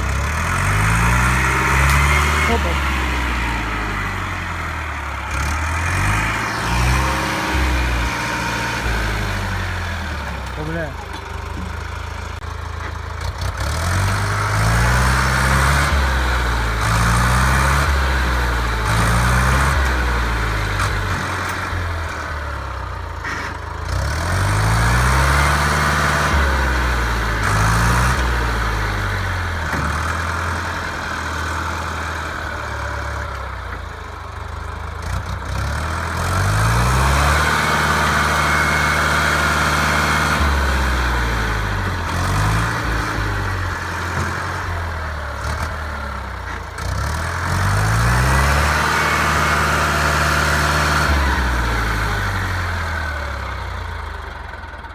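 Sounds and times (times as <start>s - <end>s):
tractor engine revving: 0.0s - 54.9s.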